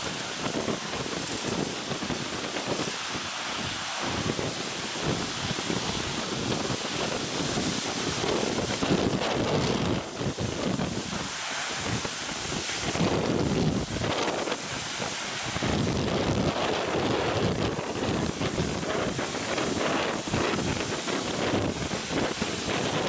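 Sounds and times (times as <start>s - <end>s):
surf breaking over rocks: 0.0s - 23.0s
wind buffeting microphone: 0.0s - 23.0s.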